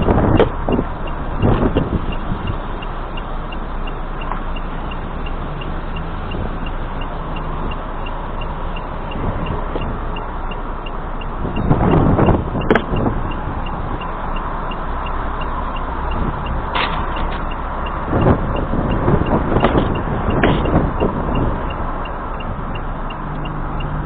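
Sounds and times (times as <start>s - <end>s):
faint regular ticking: 0.0s - 24.0s
road and engine noise in car: 0.0s - 24.0s.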